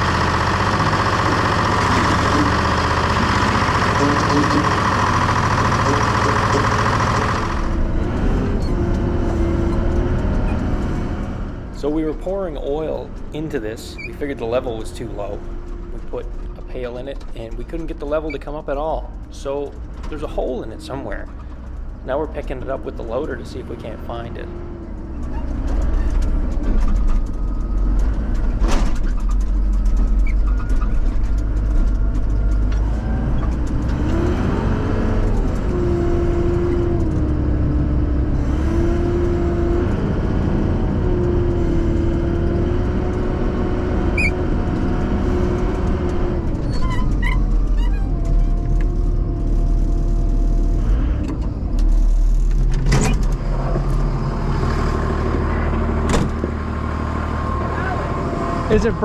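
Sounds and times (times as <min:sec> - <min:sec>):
diesel engine revving under load: 0:00.0 - 0:59.0
pitched whine: 0:00.0 - 0:59.0.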